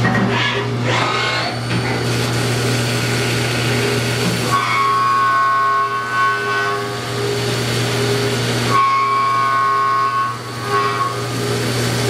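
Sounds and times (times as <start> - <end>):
milling machine whine: 0.0 - 12.0.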